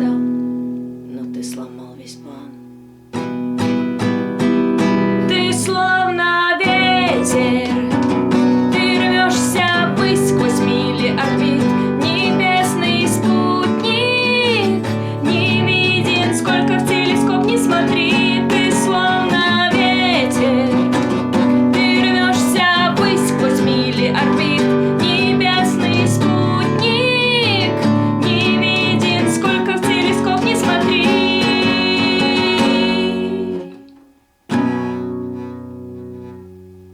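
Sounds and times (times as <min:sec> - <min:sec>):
acoustic guitar music: 0:00.0 - 0:36.9.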